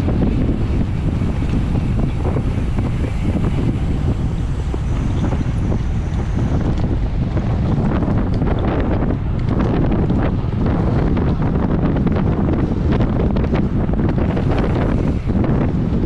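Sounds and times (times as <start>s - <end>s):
heavy wind noise on microphone: 0.0s - 16.0s.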